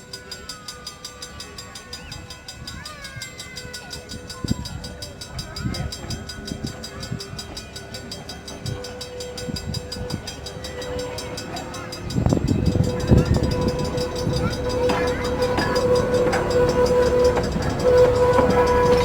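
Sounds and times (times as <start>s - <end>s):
faint voices: 0.0s - 19.0s
train moving: 0.0s - 19.0s.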